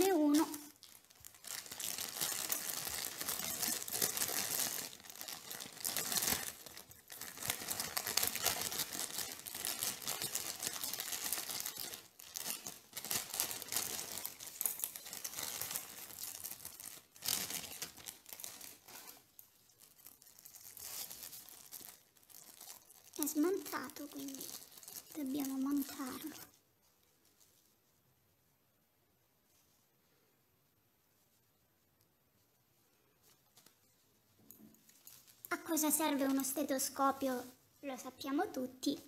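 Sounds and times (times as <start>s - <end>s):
plastic bags rustling: 0.0s - 27.9s, 33.2s - 39.0s.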